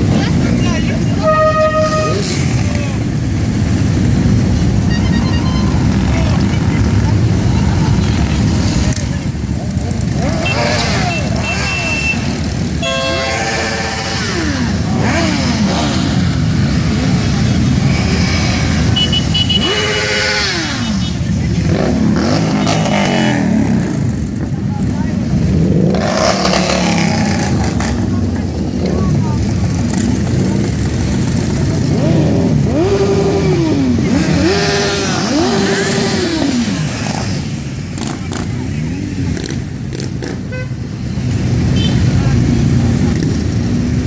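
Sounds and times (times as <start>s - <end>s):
motorcycle engines revving: 0.0s - 44.0s
traffic rumble: 0.0s - 44.0s.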